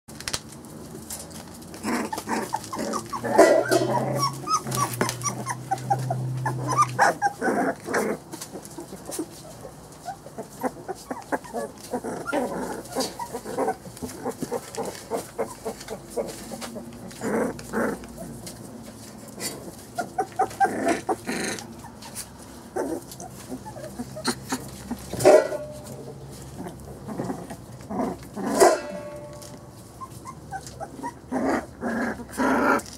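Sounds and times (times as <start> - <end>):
puppies whimpering and squeaking: 1.2 - 32.9.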